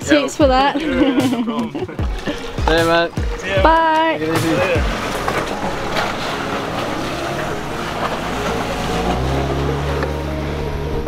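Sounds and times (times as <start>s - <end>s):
boat motor humming: 0.0s - 11.0s
water rushing: 0.0s - 11.0s.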